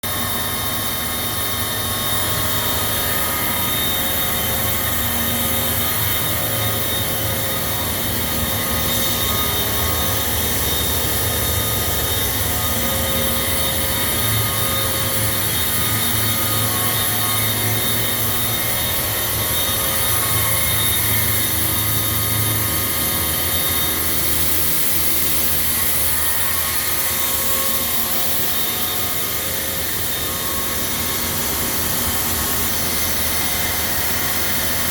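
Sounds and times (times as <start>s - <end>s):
whining tones: 0.1s - 34.9s.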